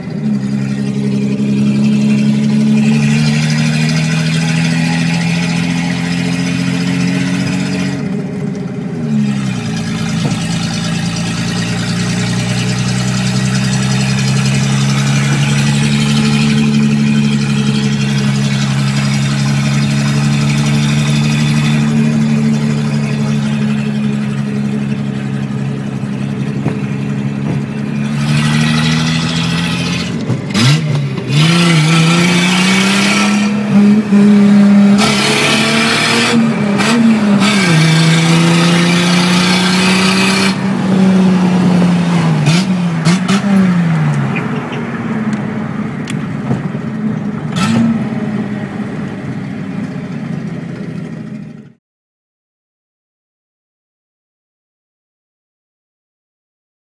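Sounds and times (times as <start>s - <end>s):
car engine revving: 0.0s - 51.8s.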